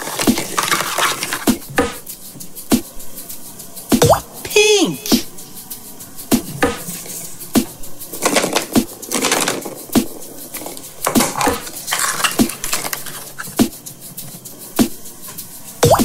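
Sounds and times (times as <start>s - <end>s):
rustling and scraping: 0.0s - 3.9s, 5.3s - 15.8s.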